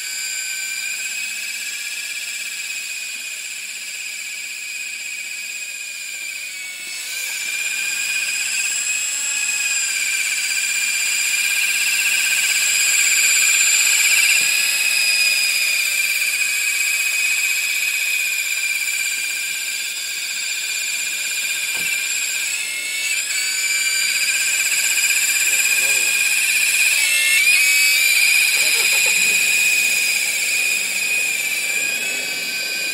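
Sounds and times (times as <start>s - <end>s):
toy helicopter motor whining: 0.0s - 32.9s.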